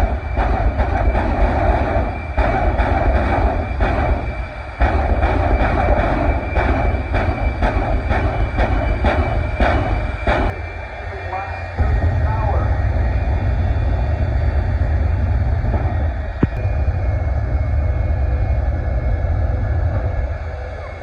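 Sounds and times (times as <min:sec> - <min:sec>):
turbine engine whine and roar: 0:00.0 - 0:21.0.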